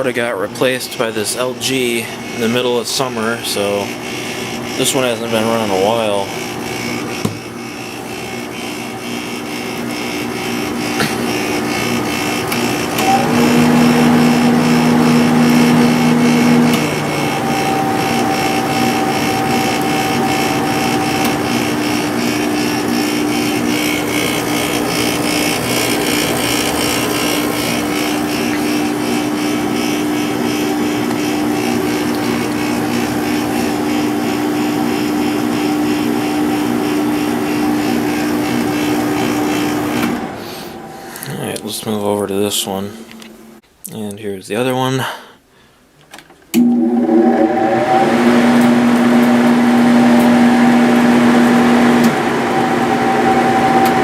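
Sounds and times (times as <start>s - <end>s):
air conditioner fan rush: 0.0s - 43.6s, 46.6s - 54.0s.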